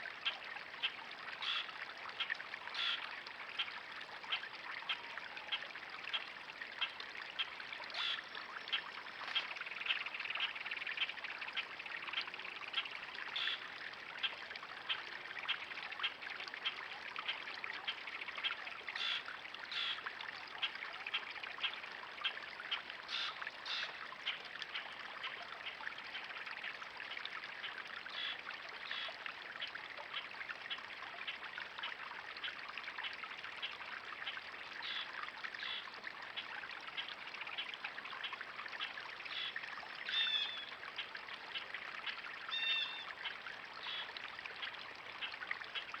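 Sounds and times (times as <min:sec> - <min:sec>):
trickle of running water: 0:00.0 - 0:46.0.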